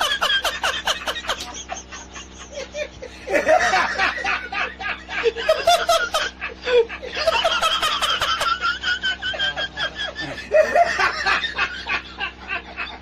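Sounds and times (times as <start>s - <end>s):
snickering laughter: 0.0s - 13.0s.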